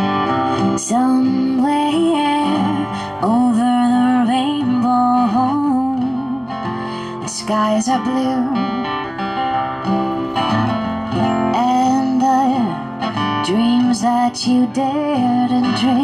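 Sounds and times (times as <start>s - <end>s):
strummed acoustic guitar: 0.0s - 16.0s
woman singing: 0.4s - 9.1s, 11.4s - 16.0s.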